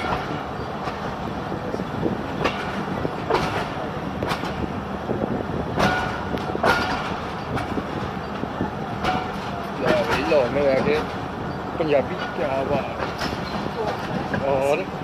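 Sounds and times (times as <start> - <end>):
train rumble: 0.0 - 15.0
train wheels clacking over joints: 0.0 - 15.0.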